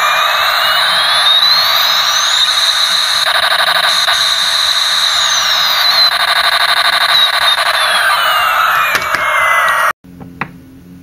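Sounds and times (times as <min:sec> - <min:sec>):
electronic siren-like sound effects: 0:00.0 - 0:10.0.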